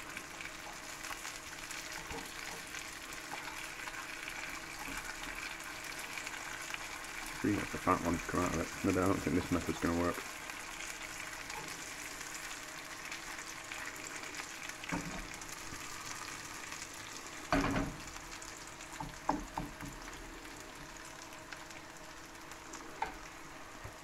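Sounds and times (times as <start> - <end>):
cheese sizzling in a frying pan: 0.0 - 24.0.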